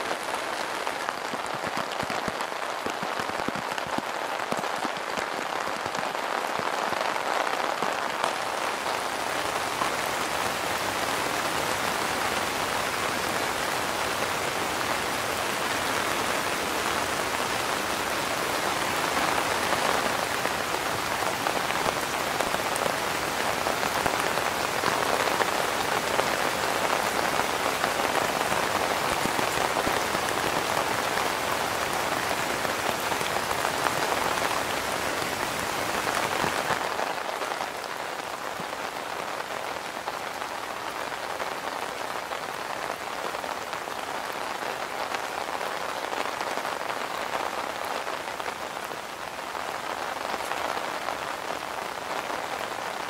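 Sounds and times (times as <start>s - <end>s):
rain falling on a tarp: 0.0s - 53.0s.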